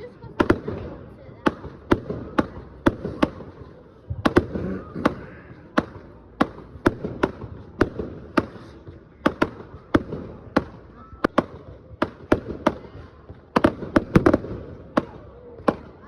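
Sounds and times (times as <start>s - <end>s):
fireworks crackling: 0.0s - 16.0s
fireworks bangs: 0.3s - 16.0s.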